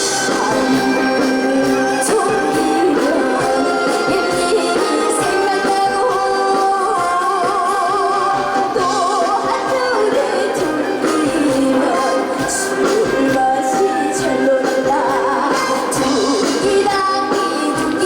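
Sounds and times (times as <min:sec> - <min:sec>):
backing music: 0:00.0 - 0:18.0
girl singing with vibrato: 0:00.0 - 0:18.0.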